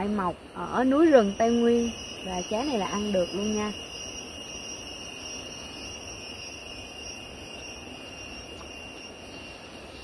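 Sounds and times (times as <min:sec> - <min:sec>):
background hiss: 0:00.0 - 0:10.0
high-pitched insect buzzing: 0:00.9 - 0:10.0.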